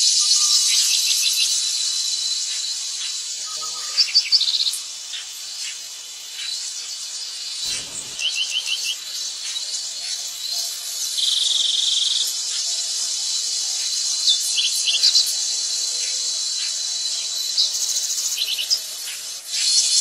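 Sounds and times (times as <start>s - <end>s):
insects shrilling: 0.0s - 20.0s
buzzing insect trill: 0.1s - 20.0s
bird chirps: 2.3s - 12.4s, 13.2s - 20.0s.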